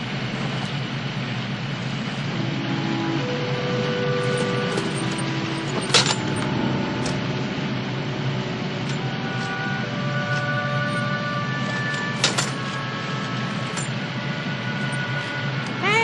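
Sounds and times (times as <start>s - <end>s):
held orchestral notes: 2.2s - 16.0s.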